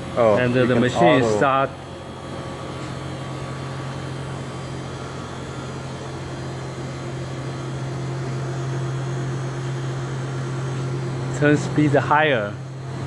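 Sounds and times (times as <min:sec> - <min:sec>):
grinder motor humming with hiss: 0:00.0 - 0:13.0
higher machine tone: 0:00.0 - 0:13.0.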